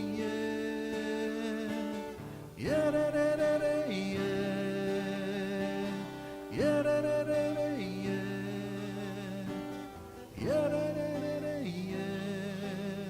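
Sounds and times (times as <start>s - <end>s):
slow worship music with guitar: 0.0s - 13.0s.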